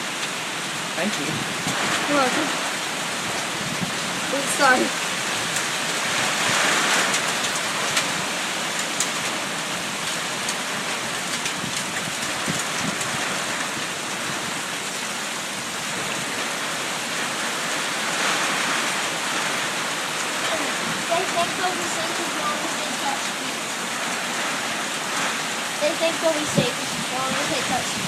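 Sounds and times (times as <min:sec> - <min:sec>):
heavy rain hiss: 0:00.0 - 0:28.0
raindrops ticking close by: 0:00.0 - 0:28.0.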